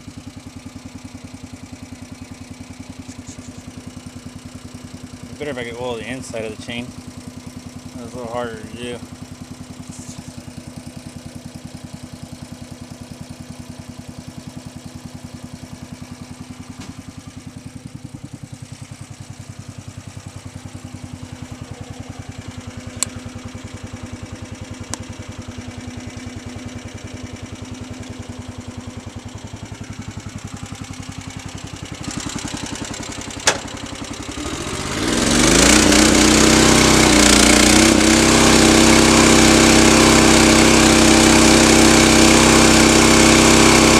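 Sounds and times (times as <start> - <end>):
small engine running: 1.8 - 43.9.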